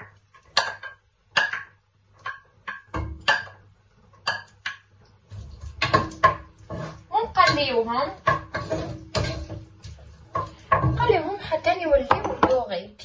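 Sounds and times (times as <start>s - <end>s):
dish tapping and scraping a pot: 0.0s - 12.7s.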